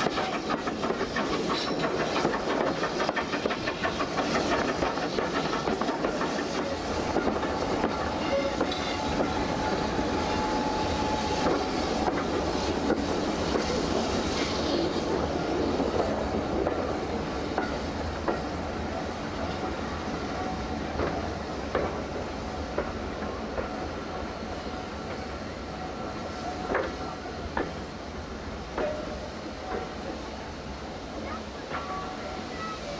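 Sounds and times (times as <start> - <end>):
train coach running noise: 0.0 - 32.9.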